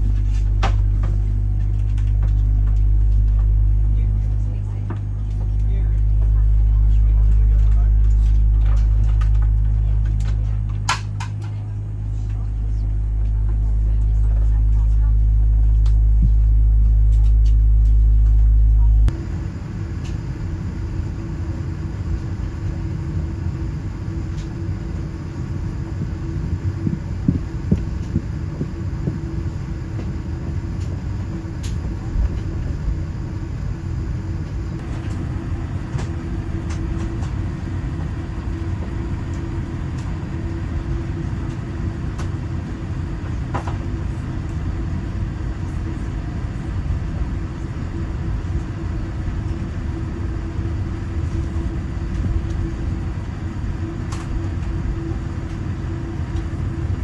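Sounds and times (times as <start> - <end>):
airplane cabin rumble and hum: 0.0 - 57.0.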